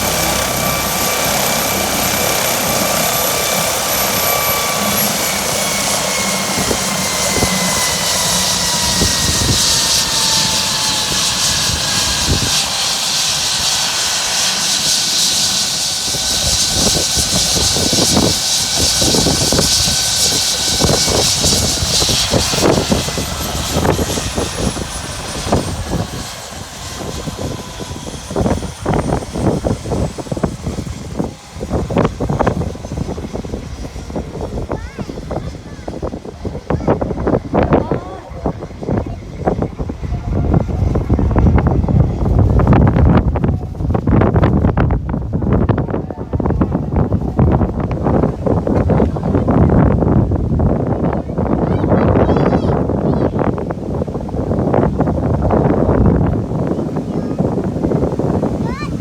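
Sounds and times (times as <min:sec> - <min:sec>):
helicopter rotor noise: 0:00.0 - 0:59.0
helicopter turbine whine: 0:00.0 - 0:59.0
wind buffeting microphone: 0:00.0 - 0:59.0.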